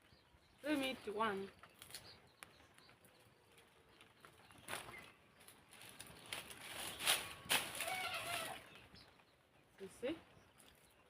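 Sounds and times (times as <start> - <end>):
faint bird chirp: 0.0 - 11.0.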